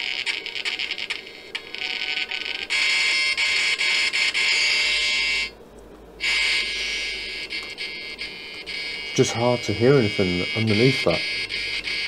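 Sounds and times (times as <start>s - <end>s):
radio static hissing: 0.0s - 5.6s, 6.2s - 12.0s
faint steady whines: 0.0s - 12.0s.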